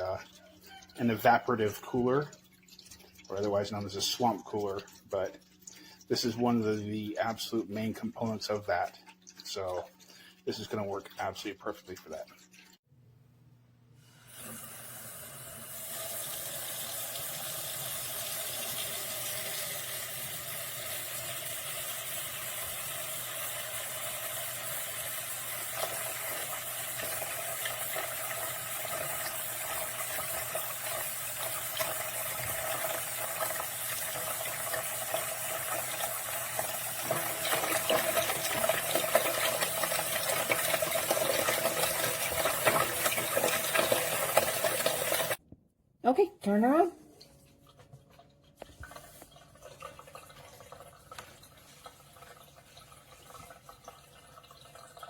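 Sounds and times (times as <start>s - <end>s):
water running into a sink: 0.0s - 12.8s, 14.2s - 45.4s, 47.2s - 55.0s.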